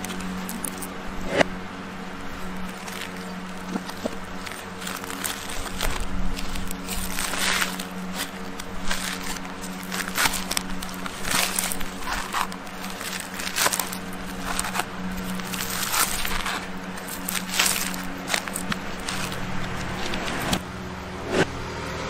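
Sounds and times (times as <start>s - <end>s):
knife scraping coconut shell: 2.4s - 20.6s.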